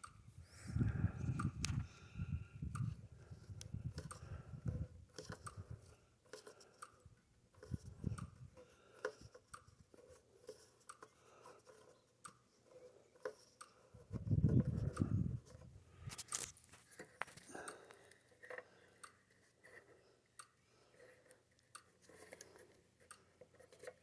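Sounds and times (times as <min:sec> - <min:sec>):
small clicks and rustles of hands: 0:00.0 - 0:24.0.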